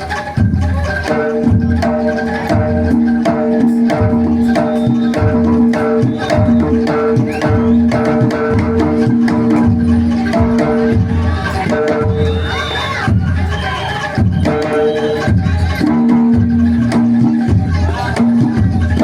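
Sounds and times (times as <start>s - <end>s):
rapid drum and percussion strokes: 0.0s - 19.0s.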